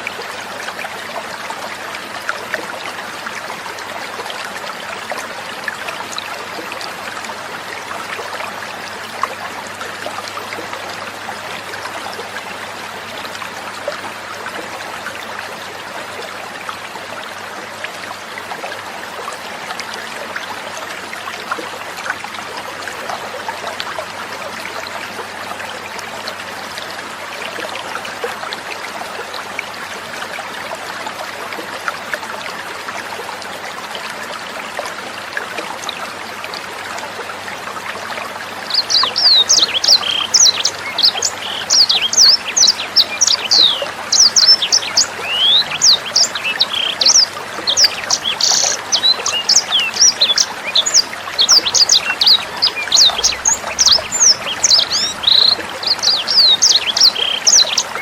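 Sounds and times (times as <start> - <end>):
water babbling over stones: 0.0 - 58.0.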